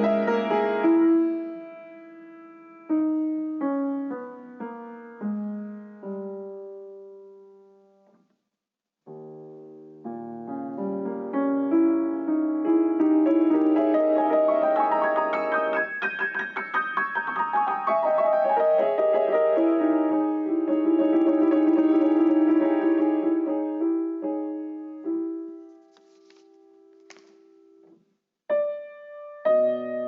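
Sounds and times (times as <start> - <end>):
solo piano music: 0.0 - 8.2, 9.1 - 30.0.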